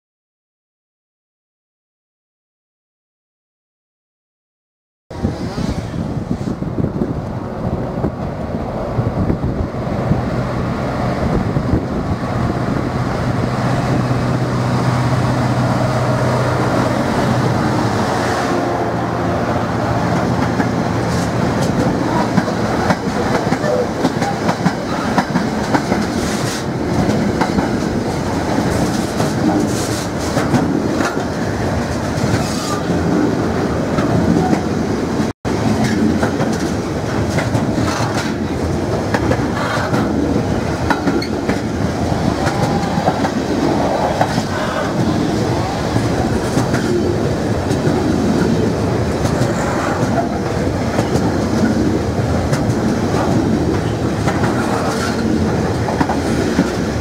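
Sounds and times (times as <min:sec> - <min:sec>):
diesel locomotive engine drone: 0:05.1 - 0:57.0.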